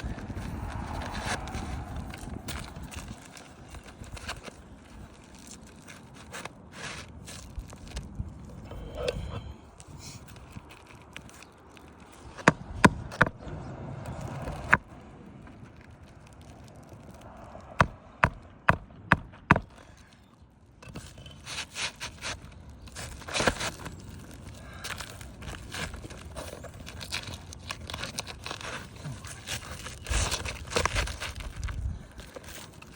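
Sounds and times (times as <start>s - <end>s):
shingles rustling and scraping: 0.0s - 13.4s, 14.0s - 32.9s.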